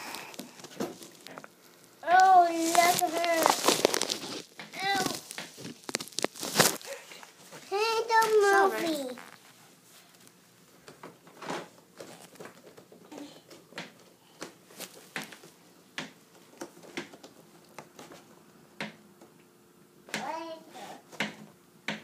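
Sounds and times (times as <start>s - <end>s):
soft handling clicks and rustles: 0.0s - 18.3s.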